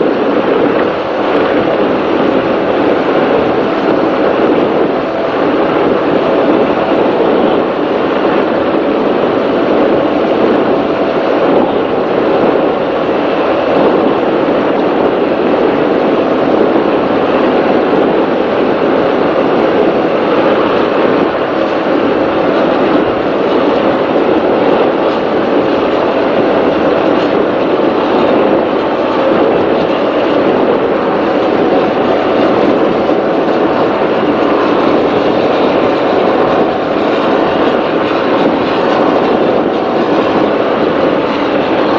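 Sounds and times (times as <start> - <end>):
powerboat engine drone: 0.0 - 41.9
rushing water noise: 0.0 - 41.9.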